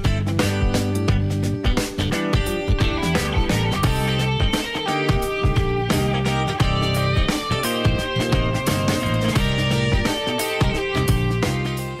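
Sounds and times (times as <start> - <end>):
instrumental music with a beat: 0.0 - 12.0.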